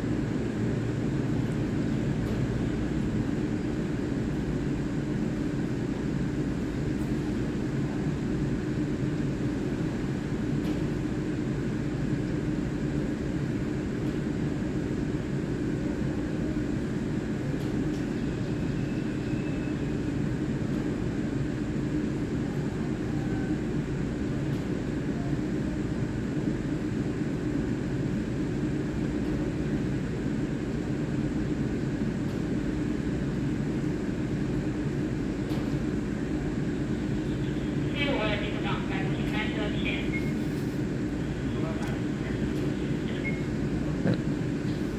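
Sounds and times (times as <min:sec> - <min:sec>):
electric train humming: 0:00.0 - 0:44.9.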